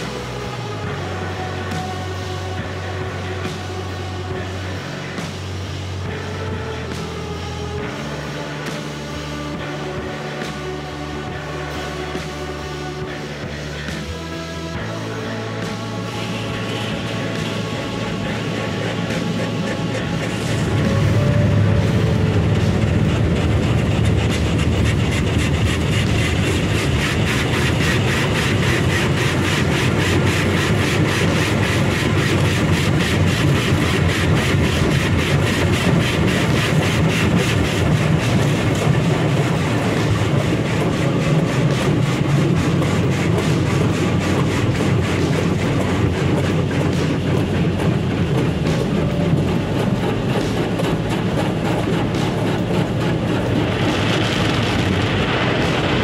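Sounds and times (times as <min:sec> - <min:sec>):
car wash machinery drumming: 0:00.0 - 0:56.0.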